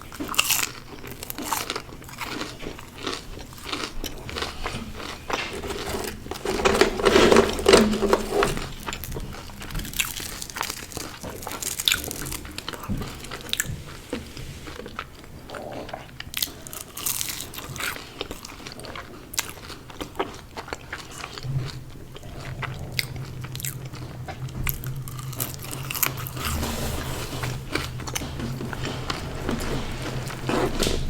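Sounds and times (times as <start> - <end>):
crunchy food chewing: 0.0 - 31.0.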